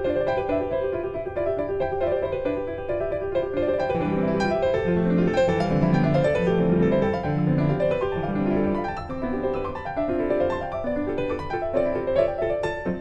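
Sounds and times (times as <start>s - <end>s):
piano melody over held chords: 0.0s - 13.0s.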